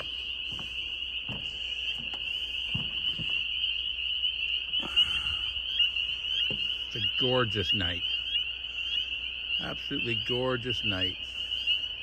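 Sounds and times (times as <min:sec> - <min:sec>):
frog chorus trilling: 0:00.0 - 0:12.0
lower frog call: 0:00.0 - 0:12.0.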